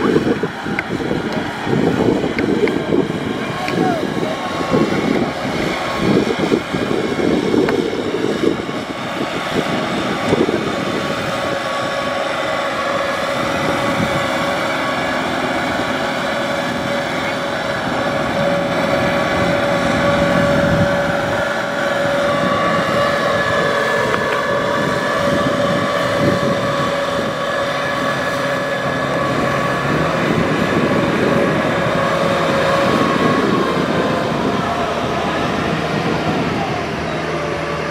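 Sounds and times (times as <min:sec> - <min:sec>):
tractor diesel engine running: 0:00.0 - 0:37.9
tyres churning through water: 0:00.0 - 0:37.9.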